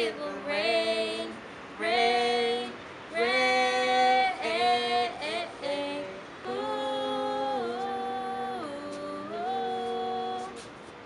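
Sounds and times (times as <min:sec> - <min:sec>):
women singing a cappella: 0:00.0 - 0:10.8.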